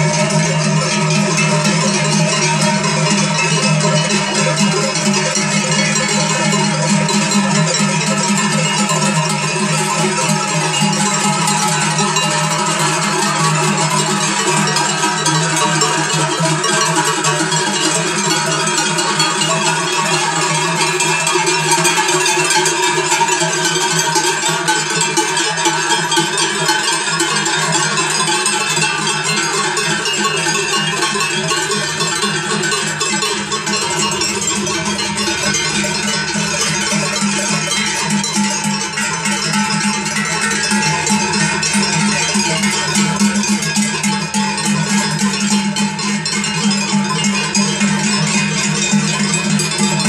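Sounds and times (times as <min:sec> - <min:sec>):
cowbells clanging: 0:00.0 - 0:50.0.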